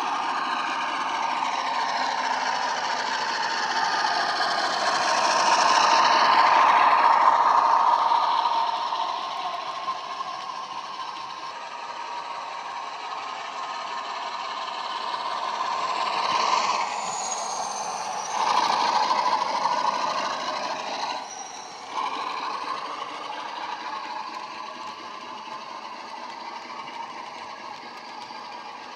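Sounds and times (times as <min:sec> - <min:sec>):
model diesel locomotive engine: 0:00.0 - 0:28.9
thin high whine: 0:00.0 - 0:28.9.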